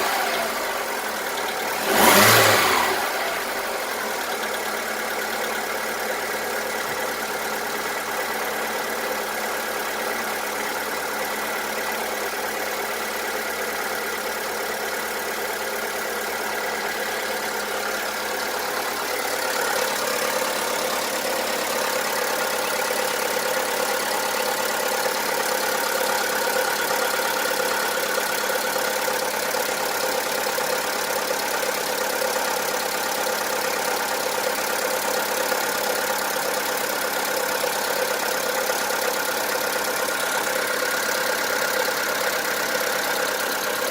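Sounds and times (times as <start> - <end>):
car engine idling with knock: 0.0 - 43.9.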